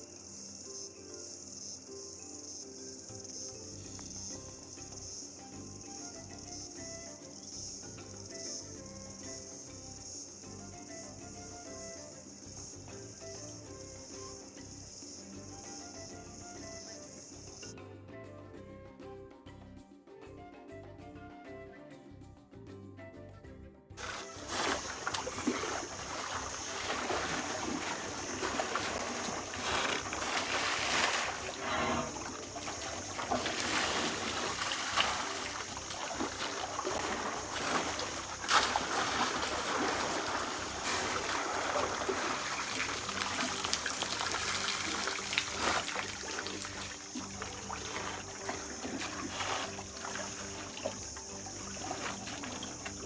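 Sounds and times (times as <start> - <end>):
water splashing and trickling: 3.6 - 17.7, 24.0 - 53.0.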